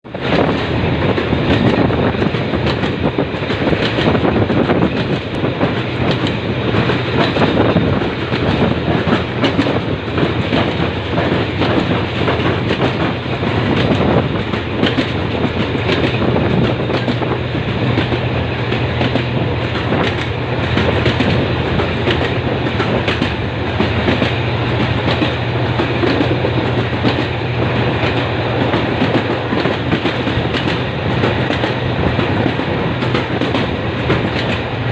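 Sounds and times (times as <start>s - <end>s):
train rumble: 0.0s - 34.9s.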